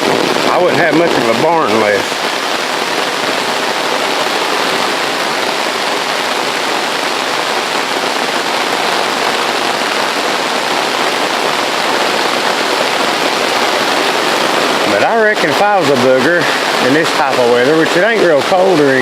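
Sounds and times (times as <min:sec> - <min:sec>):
rain on an umbrella: 0:00.0 - 0:19.0.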